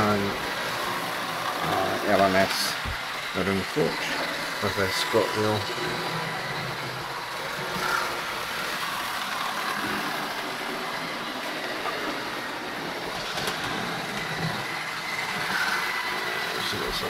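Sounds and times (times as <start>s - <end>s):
model train motors whirring: 0.0s - 17.0s.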